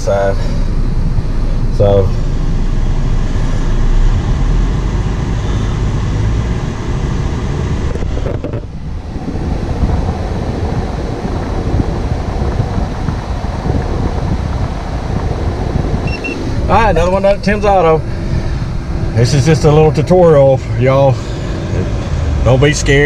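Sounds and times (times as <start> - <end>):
air rushing from vents: 0.0 - 23.0
car engine running: 0.0 - 23.0.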